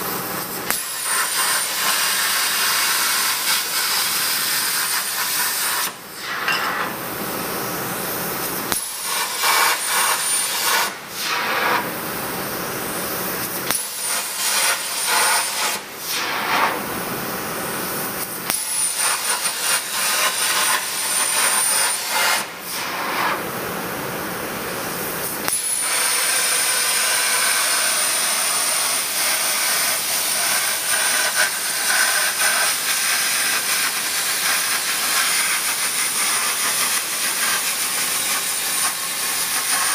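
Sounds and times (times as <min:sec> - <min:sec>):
plasma cutter hissing: 0:00.2 - 0:23.4, 0:25.0 - 0:39.9.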